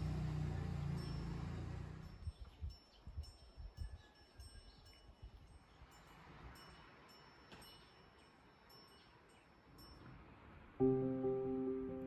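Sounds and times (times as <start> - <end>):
wind chime tinkling: 0.8 - 10.6.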